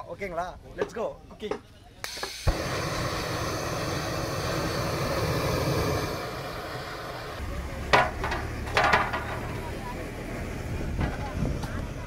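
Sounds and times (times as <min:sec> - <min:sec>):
gas burner roaring: 0:02.0 - 0:12.0.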